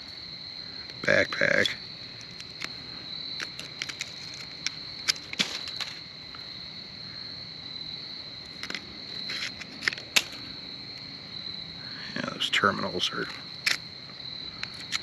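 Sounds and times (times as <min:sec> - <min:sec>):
cricket chorus: 0:00.0 - 0:15.0.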